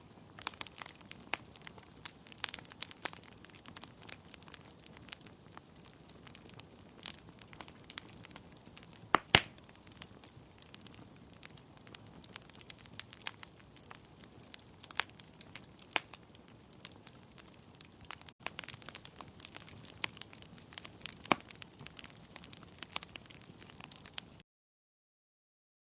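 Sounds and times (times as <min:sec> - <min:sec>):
wood fire crackling: 0:00.0 - 0:24.4.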